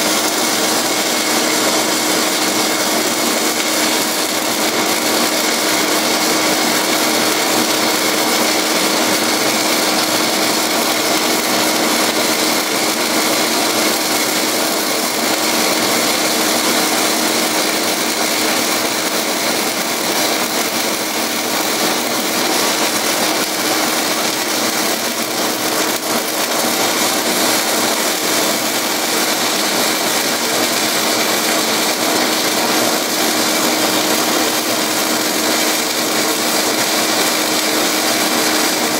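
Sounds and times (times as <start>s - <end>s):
vacuum turbine running: 0.0s - 38.9s.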